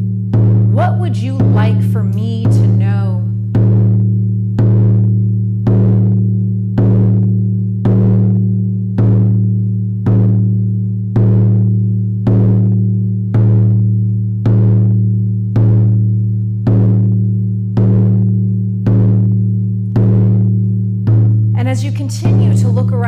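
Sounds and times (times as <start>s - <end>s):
frame drum booming: 0.3s - 23.0s.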